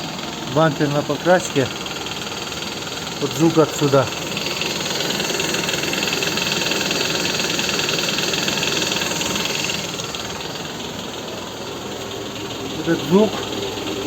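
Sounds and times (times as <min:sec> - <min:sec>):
engine running with tapping knock: 0:00.0 - 0:14.0.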